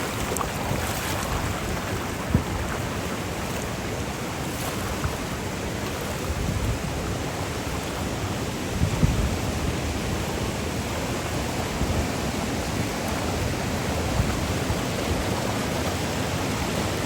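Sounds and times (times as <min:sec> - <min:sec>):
water rushing over waterfalls: 0:00.0 - 0:17.0.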